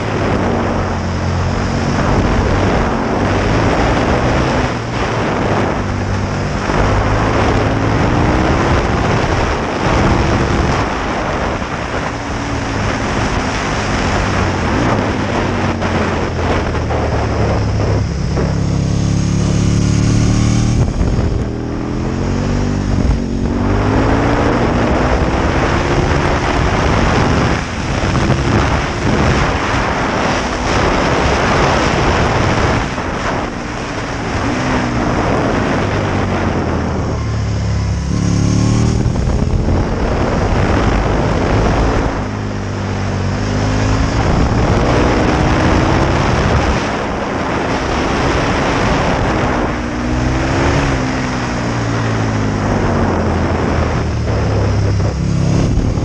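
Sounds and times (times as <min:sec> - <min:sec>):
motorcycle engine revving and shifting: 0:00.0 - 0:56.0
wind rush on microphone: 0:00.0 - 0:56.0.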